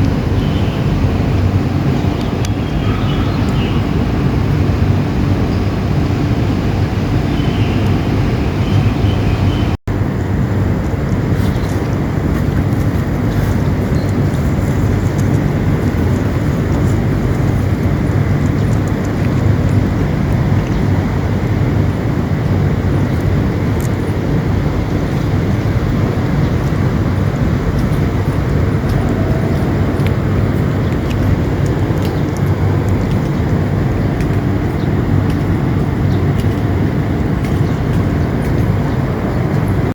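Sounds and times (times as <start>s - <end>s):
low rumbling noise: 0.0s - 39.9s.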